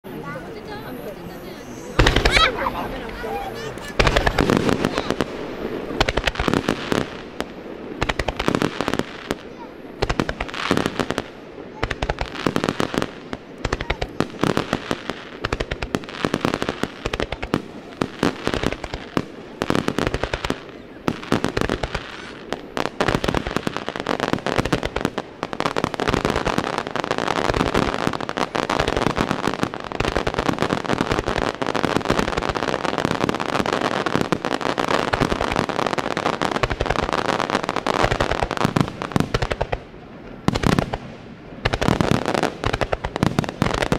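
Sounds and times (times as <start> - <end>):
fireworks bursting with crackle: 0.0 - 43.9.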